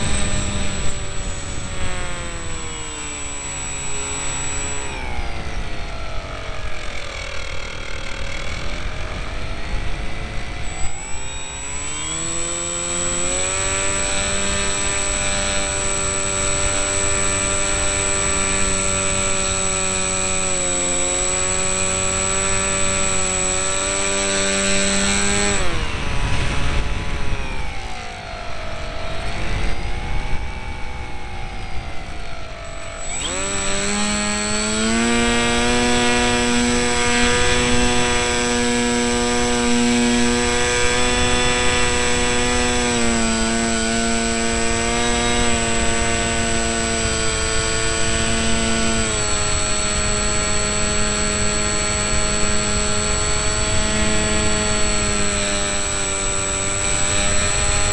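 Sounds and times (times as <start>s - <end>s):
electric motor and propeller whining: 0.0s - 57.9s.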